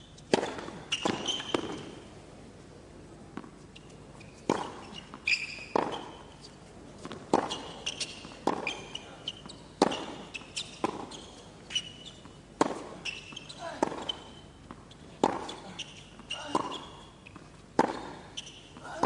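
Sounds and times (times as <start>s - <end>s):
sneakers squeaking on court: 0.0s - 2.1s, 3.7s - 18.8s
rackets hitting tennis ball: 0.2s - 2.0s, 4.4s - 6.4s, 7.0s - 19.0s.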